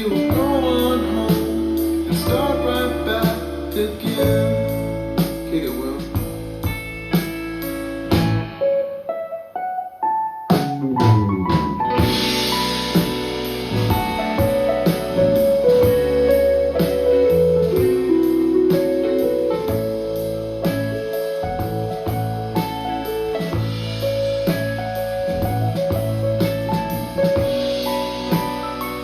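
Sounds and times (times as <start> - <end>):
drums and bass: 0.0 - 8.6, 10.5 - 29.0
keyboard solo: 0.0 - 29.0.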